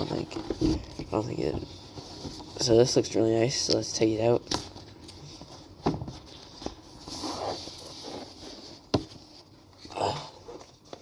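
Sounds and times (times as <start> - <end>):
rustling and scraping: 0.0 - 3.2, 4.6 - 11.0.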